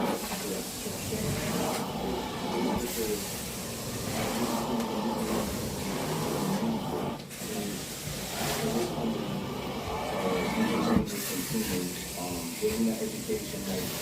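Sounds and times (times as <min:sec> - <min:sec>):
cleaning machine hissing: 0:00.0 - 0:14.0.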